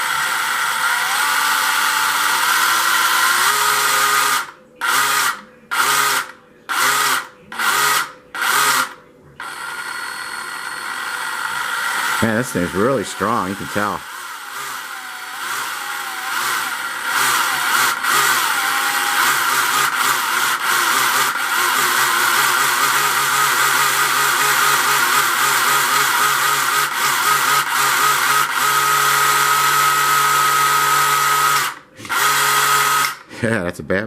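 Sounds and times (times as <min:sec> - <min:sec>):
slot car electric motor whining: 0:00.0 - 0:33.3.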